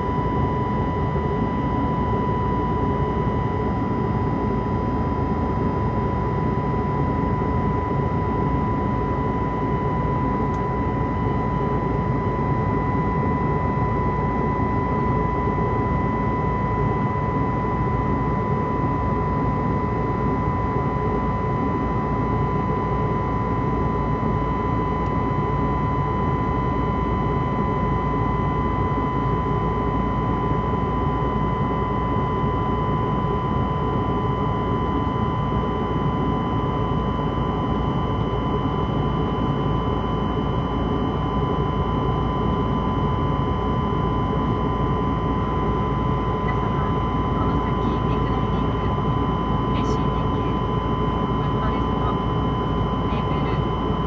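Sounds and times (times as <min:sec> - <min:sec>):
aircraft cabin engine rush: 0:00.0 - 0:54.0
constant whine: 0:00.0 - 0:54.0.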